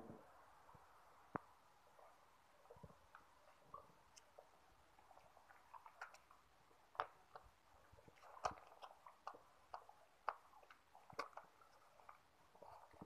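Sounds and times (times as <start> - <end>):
puppies suckling wet smacking: 1.9 - 13.0.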